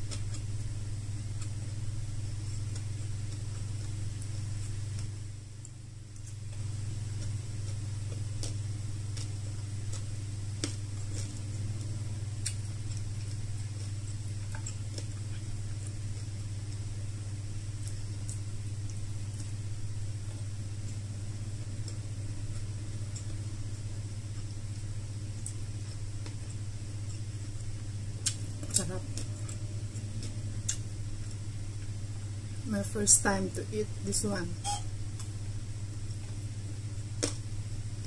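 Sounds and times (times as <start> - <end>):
person chewing food: 0.0 - 32.6, 34.7 - 38.0
steady low hum: 0.0 - 38.0.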